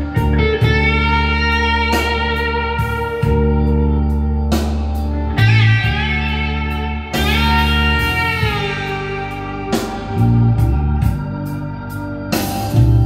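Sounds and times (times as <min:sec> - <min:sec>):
deep steady bass: 0:00.0 - 0:13.0
plucked guitar notes: 0:00.0 - 0:13.0.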